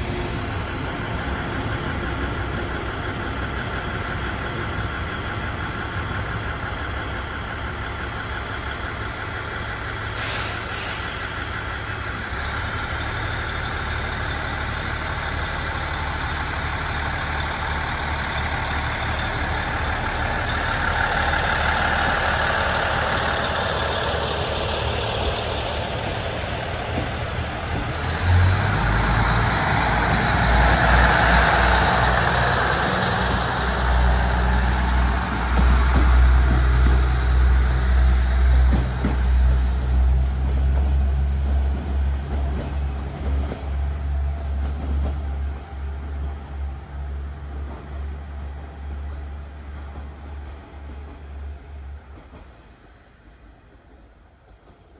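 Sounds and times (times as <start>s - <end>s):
diesel train engines running: 0.0s - 54.9s.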